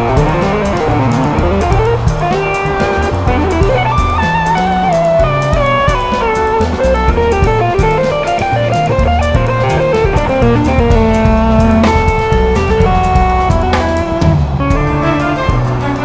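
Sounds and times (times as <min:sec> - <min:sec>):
bass: 0:00.0 - 0:16.0
drum kit: 0:00.0 - 0:16.0
electric guitar solo: 0:00.0 - 0:16.0.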